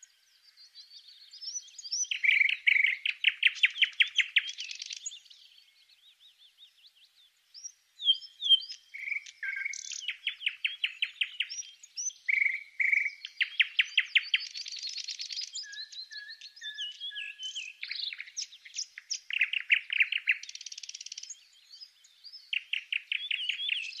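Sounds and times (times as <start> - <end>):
songbird trilling and chirping: 0.0 - 24.0.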